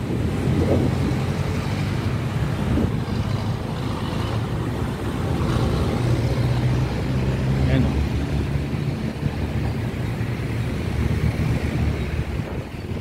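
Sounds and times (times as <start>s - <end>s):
cars and scooters passing: 0.0s - 13.0s
low engine hum: 0.0s - 13.0s.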